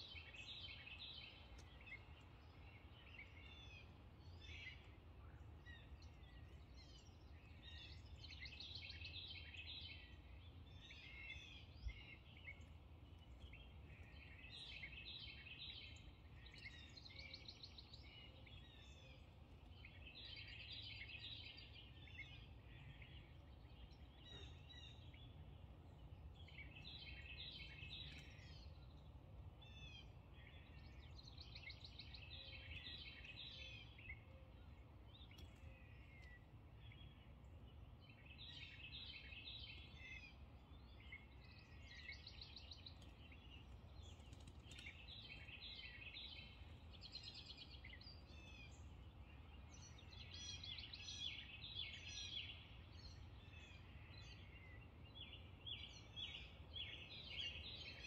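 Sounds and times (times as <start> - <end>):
faint songbird chirping: 0.0 - 58.0.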